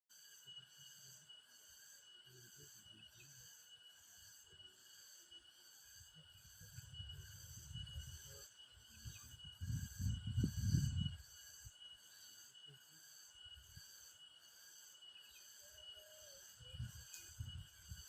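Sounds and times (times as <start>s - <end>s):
insects chirring: 0.1s - 18.0s.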